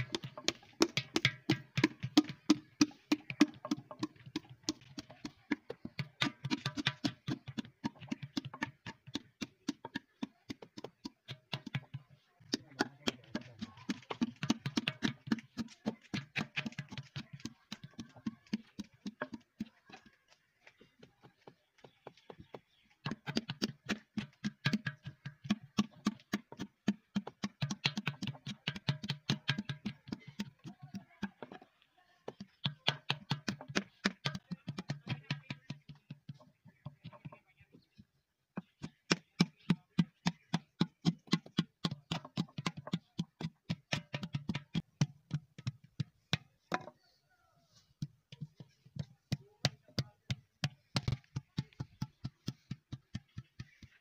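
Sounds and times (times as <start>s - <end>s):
paddle knocking clay pot: 0.0s - 20.2s, 23.0s - 31.7s, 32.3s - 37.4s, 38.6s - 47.0s, 48.0s - 54.0s.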